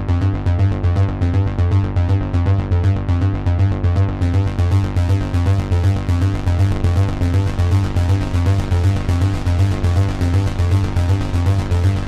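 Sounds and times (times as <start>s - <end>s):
deep synth bass line: 0.0s - 12.0s.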